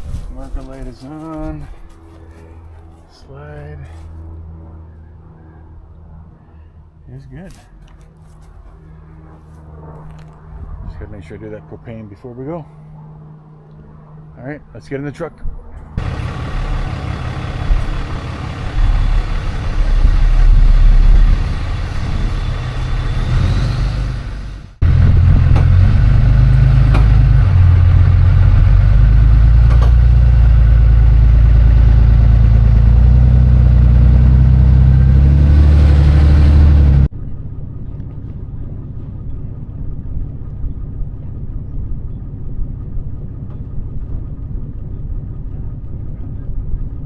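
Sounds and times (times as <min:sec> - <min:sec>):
truck engine and road rumble: 0:00.0 - 0:47.0.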